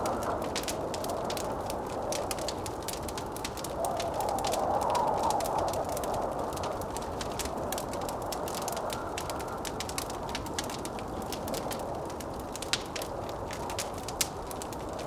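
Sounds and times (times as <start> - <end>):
blizzard wind rushing: 0.0 - 15.0
wood fire crackling and popping: 0.0 - 15.0.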